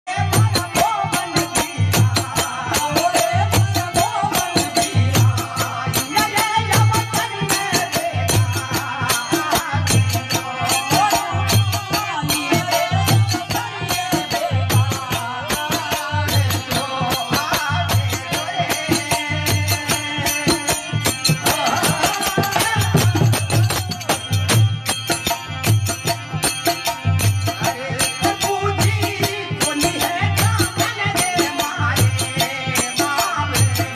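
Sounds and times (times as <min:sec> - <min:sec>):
harmonium melody: 0:00.1 - 0:33.9
rattling hand percussion: 0:00.1 - 0:33.9.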